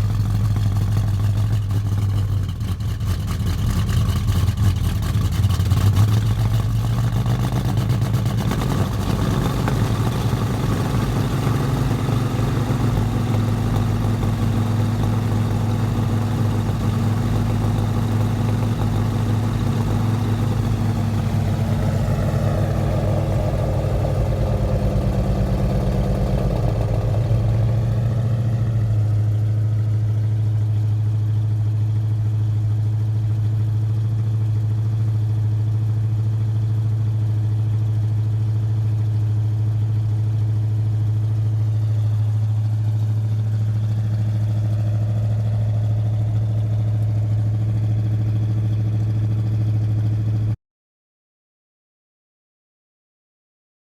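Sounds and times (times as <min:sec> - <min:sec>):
car engine idling low rumble: 0:00.0 - 0:50.6.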